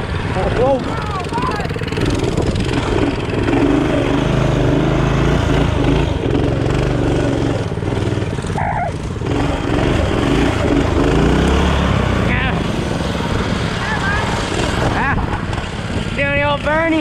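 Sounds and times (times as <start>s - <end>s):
mini bike engine revving: 0.0s - 17.0s.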